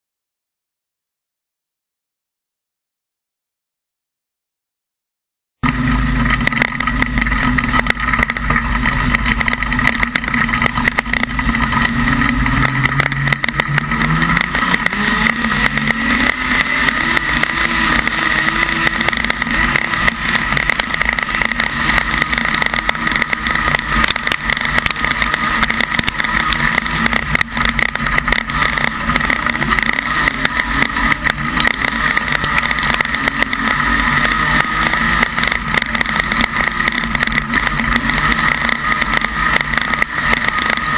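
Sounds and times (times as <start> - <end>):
race car engine revving: 5.6 - 40.9.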